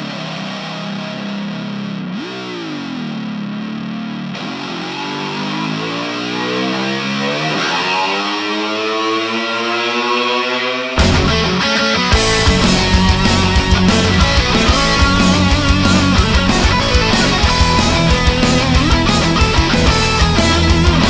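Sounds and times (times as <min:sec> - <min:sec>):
distorted electric guitar: 0:00.0 - 0:21.0.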